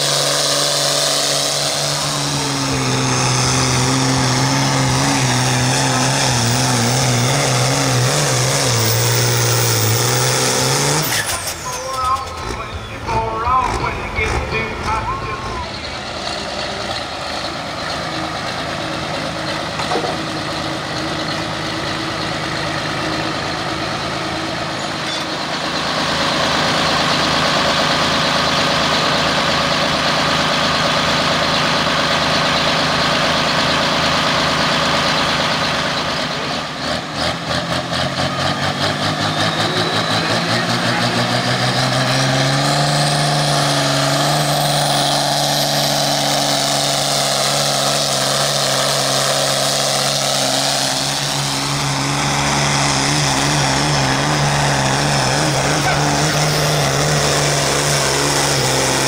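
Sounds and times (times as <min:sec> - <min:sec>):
diesel tractor engine revving: 0:00.0 - 0:59.0.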